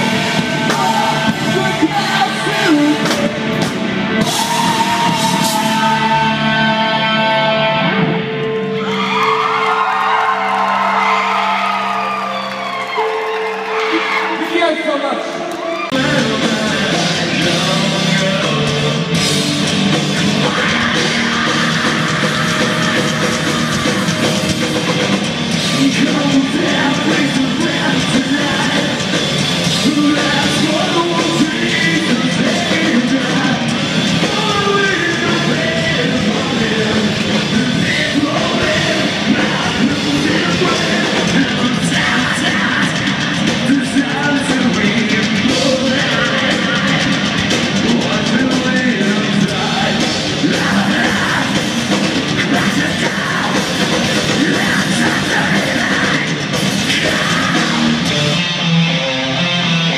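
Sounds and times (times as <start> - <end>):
live rock band with vocals: 0.0 - 59.9.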